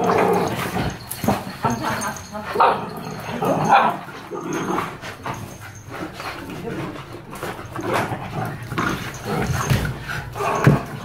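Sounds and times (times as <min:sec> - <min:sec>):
dogs growling and vocalizing: 0:00.0 - 0:11.0
dogs scuffling: 0:00.0 - 0:11.0.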